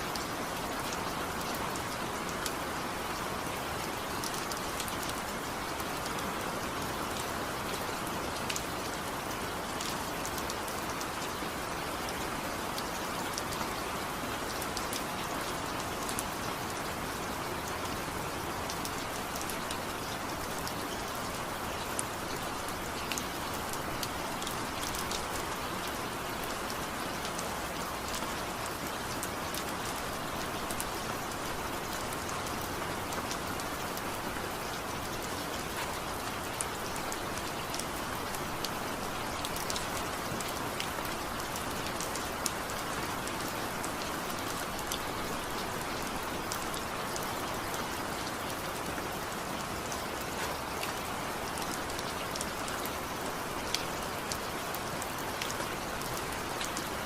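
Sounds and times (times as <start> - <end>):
steady rainfall: 0.0 - 57.0
raindrops pattering on a surface: 0.1 - 57.0.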